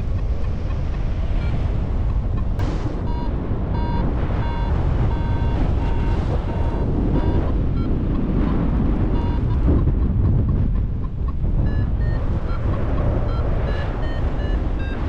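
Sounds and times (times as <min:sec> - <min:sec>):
wind buffeting microphone: 0:00.0 - 0:15.0
variometer beeping: 0:00.1 - 0:10.0, 0:10.7 - 0:15.0.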